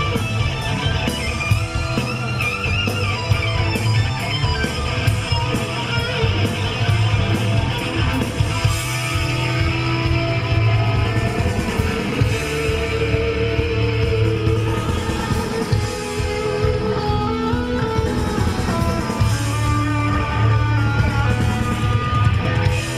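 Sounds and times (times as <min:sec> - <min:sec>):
hard rock band playing: 0:00.0 - 0:22.9.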